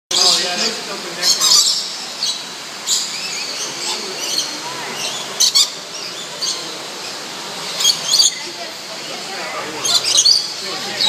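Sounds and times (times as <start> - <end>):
background bird chatter: 0.1 - 11.0
birds squawking and chirping: 0.1 - 11.0.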